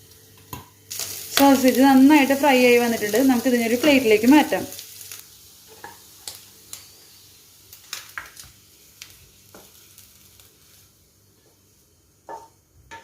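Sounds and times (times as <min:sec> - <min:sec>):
sausage sizzling in a pan: 0:00.0 - 0:13.0.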